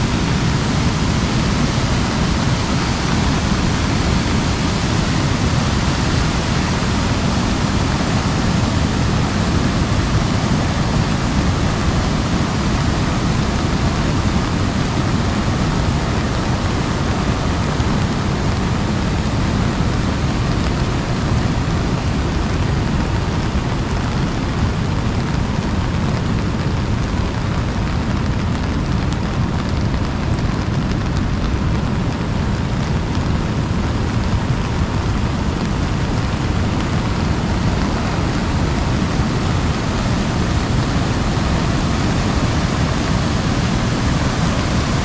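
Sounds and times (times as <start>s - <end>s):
rain pattering on an umbrella: 0.0s - 45.0s
rushing flood water: 0.0s - 45.0s.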